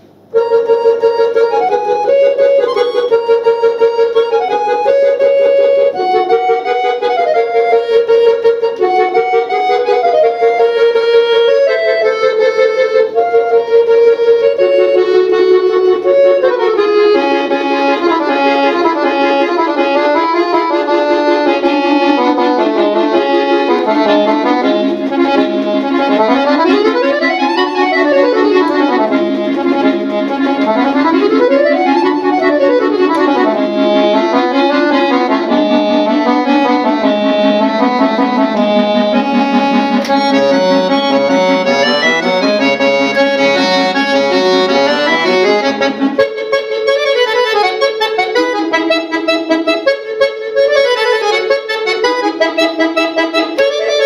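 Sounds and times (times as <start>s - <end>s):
accordion playing: 0.0s - 54.0s.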